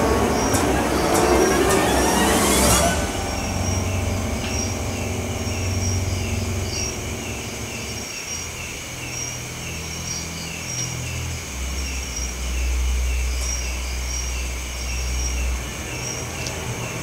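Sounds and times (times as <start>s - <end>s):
crickets chirping: 0.0s - 17.0s
low rumbling hum: 0.0s - 17.0s.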